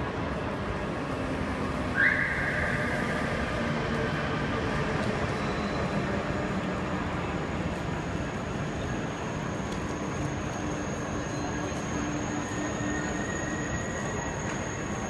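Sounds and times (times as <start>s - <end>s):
station concourse noise: 0.0s - 15.0s
train rumbling: 0.0s - 15.0s.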